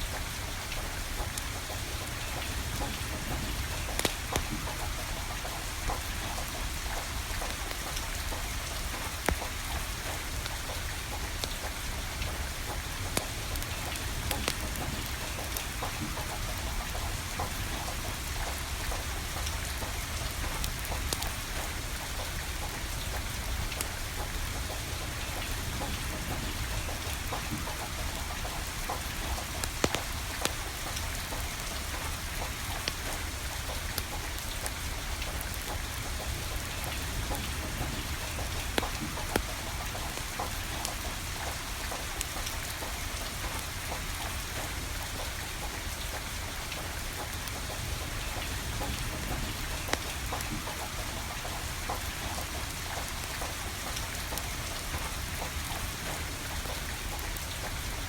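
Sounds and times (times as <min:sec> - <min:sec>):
steady rain falling: 0:00.0 - 0:58.0
firewood crackling and popping: 0:00.1 - 0:57.9.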